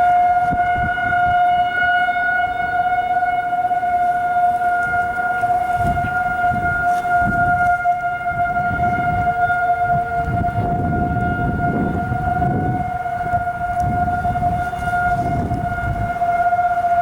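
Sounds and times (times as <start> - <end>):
outdoor warning siren steady tone: 0.0 - 17.0.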